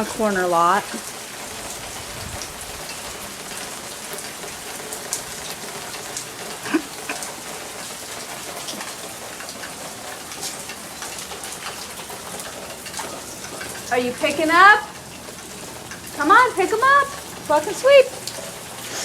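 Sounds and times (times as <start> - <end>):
drips splashing: 0.0 - 19.0
rain falling: 0.0 - 19.0.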